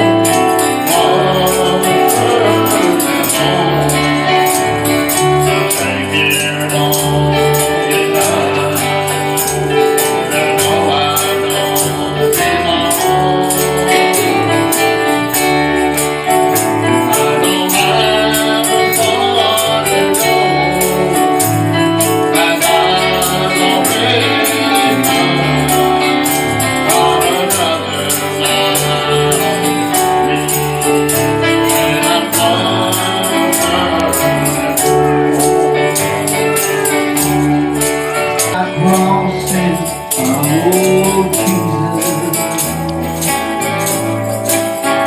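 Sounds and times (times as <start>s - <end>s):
people singing gospel: 0.0s - 44.4s
band with steady bass: 0.0s - 45.0s
tambourine shaken: 0.0s - 45.0s.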